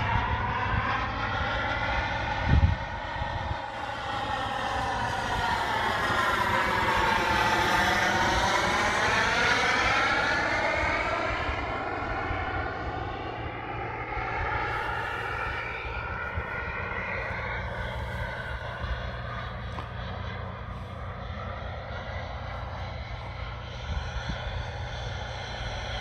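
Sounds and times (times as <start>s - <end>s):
jet turbine rush: 0.0s - 26.0s.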